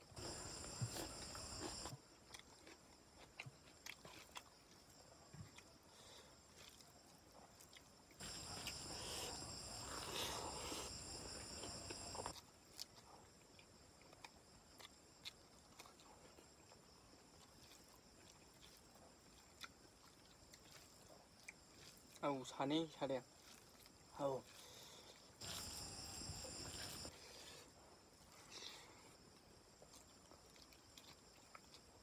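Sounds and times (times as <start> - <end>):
chewing: 0.2 - 32.0.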